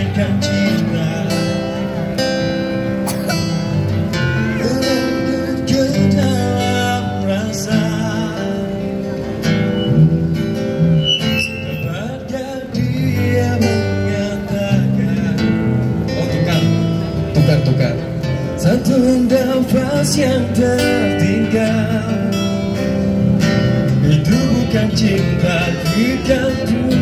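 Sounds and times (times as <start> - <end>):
electric bass notes: 0.0 - 27.0
keyboard notes: 0.0 - 27.0
strummed acoustic guitar: 0.0 - 27.0.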